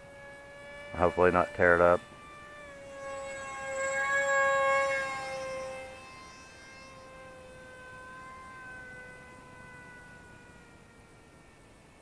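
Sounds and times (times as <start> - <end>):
electric motor propeller whine: 0.0 - 12.0.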